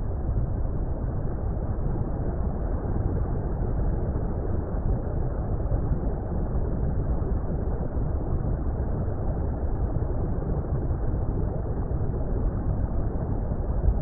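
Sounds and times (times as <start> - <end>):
low water rumble: 0.0 - 14.0.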